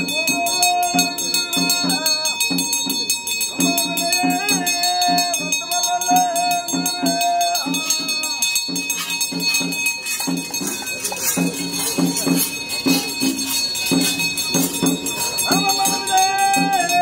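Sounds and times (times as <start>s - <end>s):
drums beaten in fast rhythm: 0.0s - 17.0s
held wavering melodic note: 0.0s - 17.0s
jingling bells: 0.0s - 17.0s.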